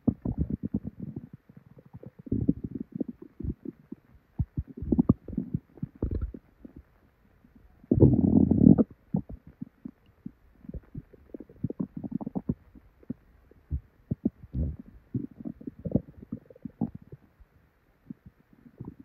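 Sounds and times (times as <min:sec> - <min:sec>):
stomach gurgling: 0:00.0 - 0:19.0.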